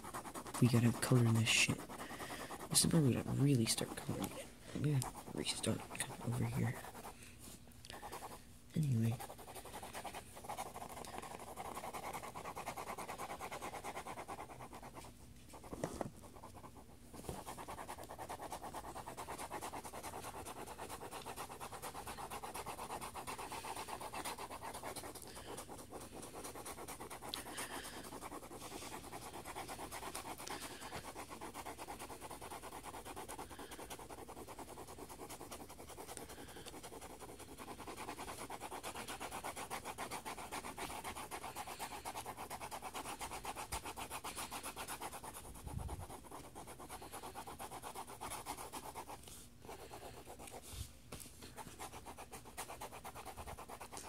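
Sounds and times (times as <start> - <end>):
pencil scribbling on paper: 0.0 - 7.2, 7.9 - 54.0.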